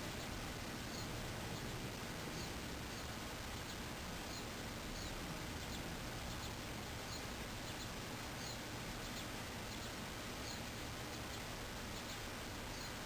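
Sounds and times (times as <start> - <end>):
high bird chirps: 0.1 - 13.0.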